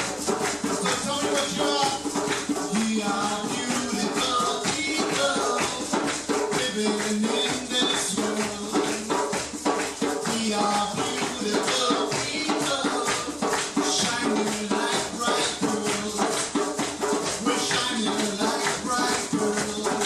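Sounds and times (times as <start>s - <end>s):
percussion strokes: 0.0s - 20.0s
shakers rattling: 0.0s - 20.0s.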